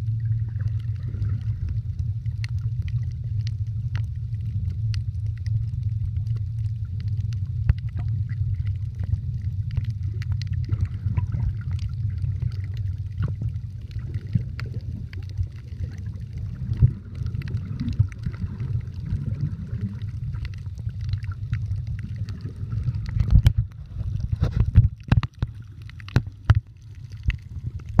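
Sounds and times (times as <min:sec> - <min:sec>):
underwater rumble of moving water: 0:00.0 - 0:28.0.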